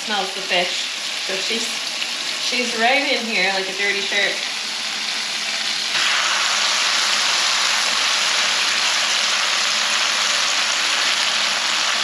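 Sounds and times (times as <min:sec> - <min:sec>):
fish sizzling in a skillet: 0:00.0 - 0:12.0.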